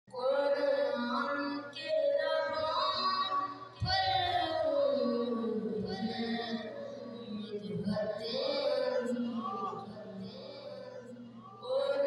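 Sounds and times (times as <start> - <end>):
boy chanting into a microphone: 0.1 - 12.0.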